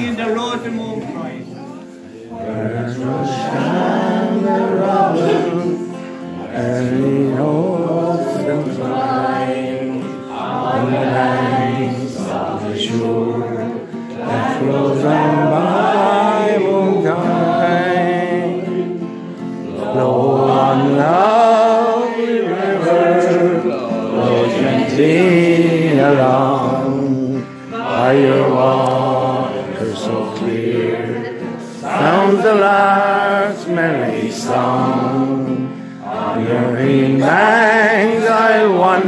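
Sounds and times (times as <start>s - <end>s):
group singing: 0.0s - 39.0s.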